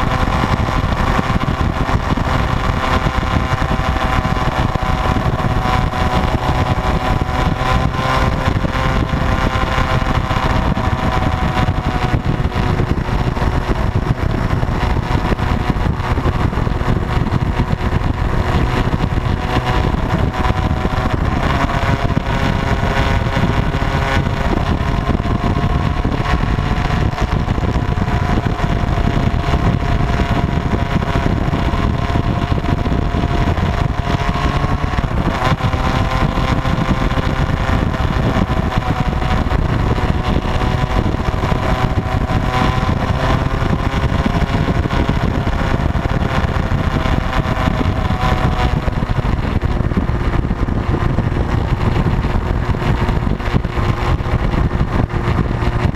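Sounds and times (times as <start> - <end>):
constant low noise: 0.0 - 55.9
motorcycle engine running: 0.0 - 55.9.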